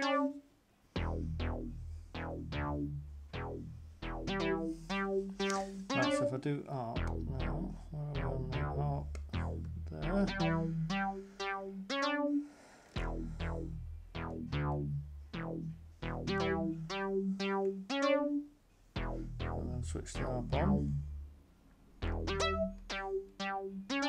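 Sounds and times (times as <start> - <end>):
plucked synth notes: 0.0 - 0.4, 1.0 - 12.4, 13.0 - 24.0
low bass notes: 0.9 - 12.0, 13.0 - 24.0.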